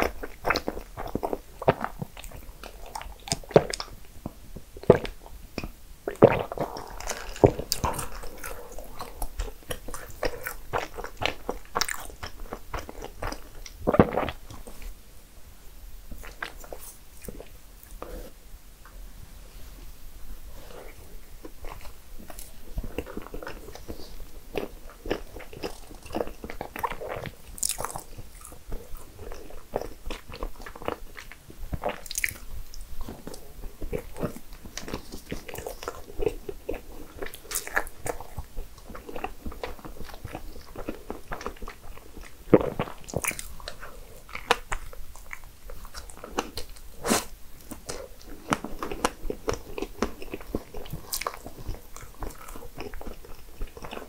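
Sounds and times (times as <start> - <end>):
person chewing with crunches: 0.0 - 15.0, 16.1 - 18.3, 20.5 - 54.0.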